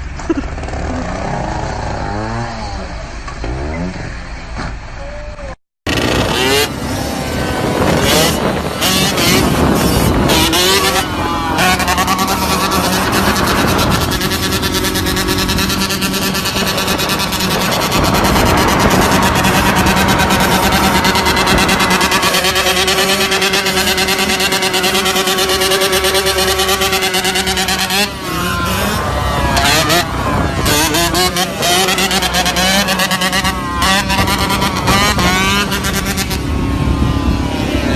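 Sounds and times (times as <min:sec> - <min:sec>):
motorcycle engine revving: 0:00.0 - 0:04.5, 0:05.9 - 0:37.9.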